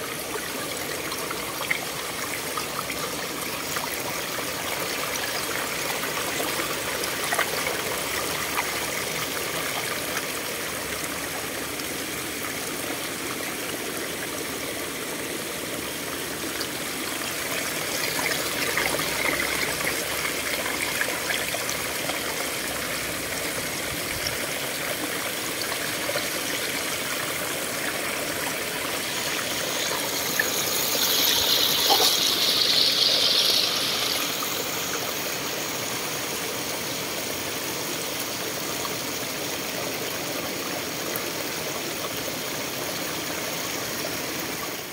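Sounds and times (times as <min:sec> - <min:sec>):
stream water rushing over rocks: 0:00.0 - 0:44.9.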